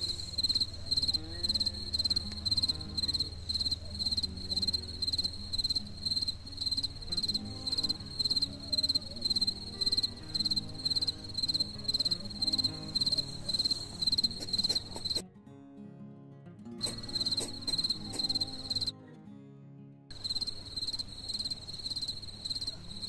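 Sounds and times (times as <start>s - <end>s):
cricket chirping: 0.0s - 15.2s, 16.8s - 18.9s, 20.1s - 23.0s.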